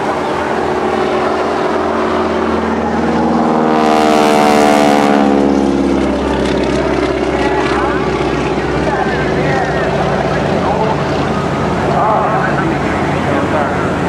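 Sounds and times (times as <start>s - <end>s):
propeller plane passing by: 0.0s - 14.0s.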